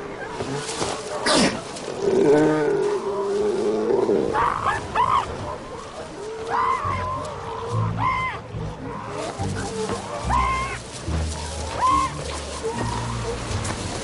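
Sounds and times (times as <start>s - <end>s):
elephant seals calling: 0.0s - 14.0s.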